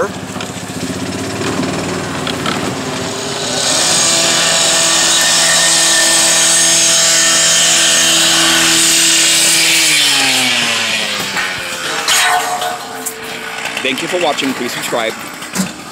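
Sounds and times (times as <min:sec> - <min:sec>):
power saw cutting: 0:00.0 - 0:15.9.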